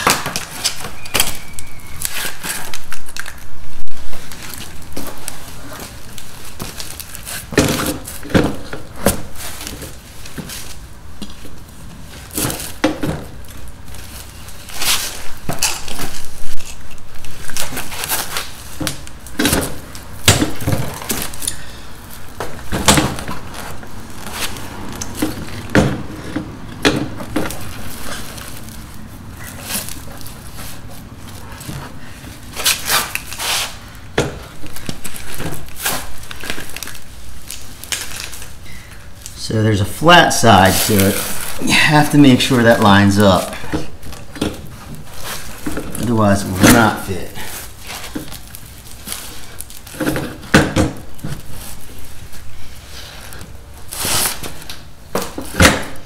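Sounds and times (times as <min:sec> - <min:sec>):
handling noise: 0:00.0 - 0:56.0.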